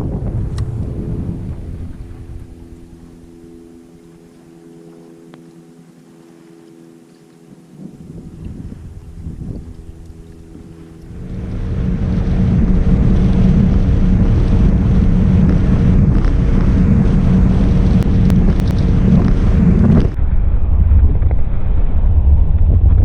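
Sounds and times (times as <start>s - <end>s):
wind rush on microphone: 0.0s - 4.4s, 7.2s - 23.0s
outboard motor running: 0.0s - 20.2s.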